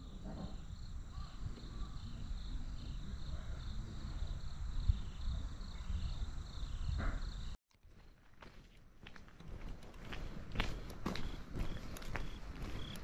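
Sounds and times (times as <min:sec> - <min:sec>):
insects chirping: 0:00.0 - 0:08.2, 0:09.8 - 0:13.0.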